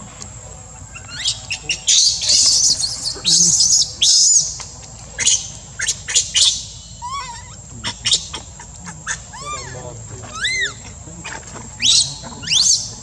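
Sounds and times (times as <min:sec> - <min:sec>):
baby monkey screaming: 0:00.8 - 0:13.0.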